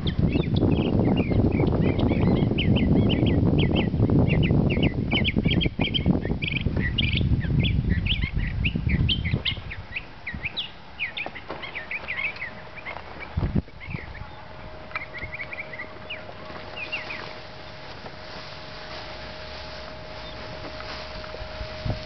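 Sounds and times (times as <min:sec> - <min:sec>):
wind rumble on microphone: 0:00.0 - 0:11.3, 0:11.9 - 0:22.0
small birds chirping: 0:00.0 - 0:22.0.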